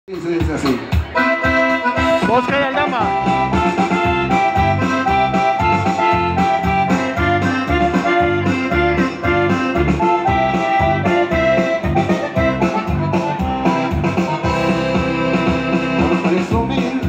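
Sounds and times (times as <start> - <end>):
guitar: 0.8 - 17.0
bass line: 0.9 - 17.0
accordion melody: 1.0 - 17.0.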